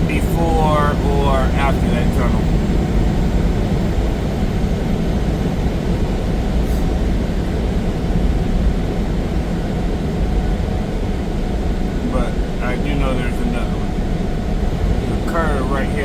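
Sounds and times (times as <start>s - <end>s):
truck engine and tyre drone: 0.0s - 16.0s.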